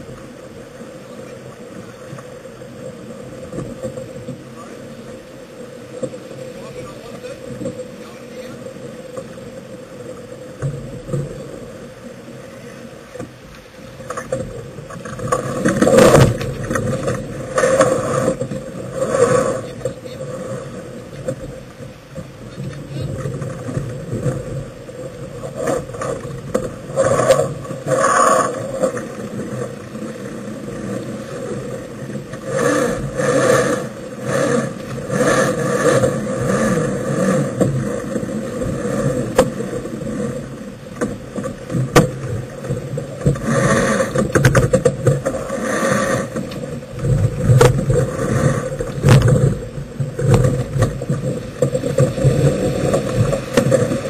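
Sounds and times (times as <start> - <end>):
sails and lines rustling: 0.0 - 54.0
water noise: 0.0 - 54.0
wind: 0.0 - 54.0.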